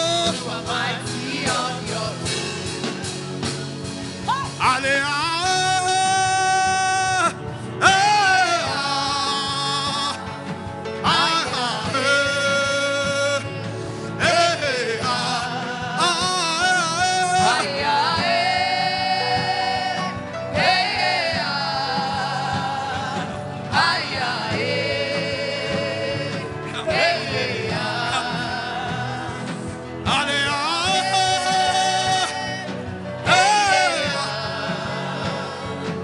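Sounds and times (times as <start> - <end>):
musical accompaniment: 0.0 - 36.0
person singing gospel: 0.0 - 36.0.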